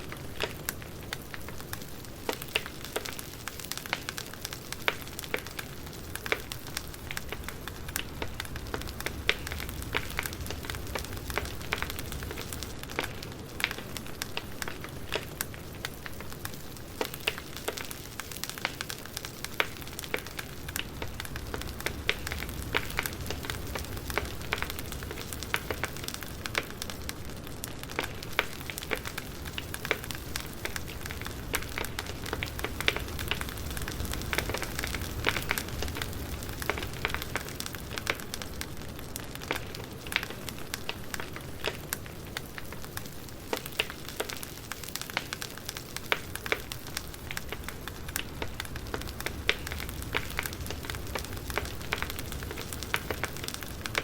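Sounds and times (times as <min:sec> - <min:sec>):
sharp pops and snaps: 0:00.0 - 0:54.0
wood fire crackling: 0:00.0 - 0:54.0.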